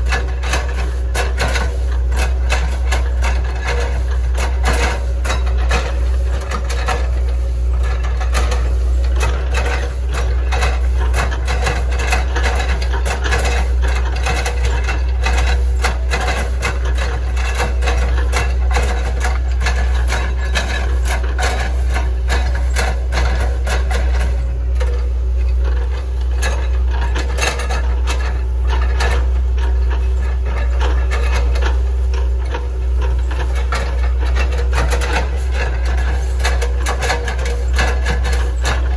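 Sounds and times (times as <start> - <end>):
excavator diesel engine under load: 0.0 - 38.9.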